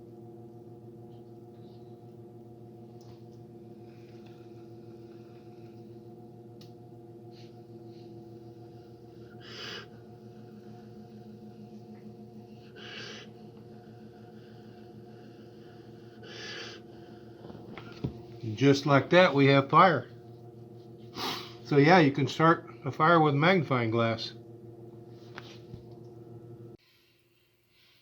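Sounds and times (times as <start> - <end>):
steady multi-tone hum: 0.0 - 26.8.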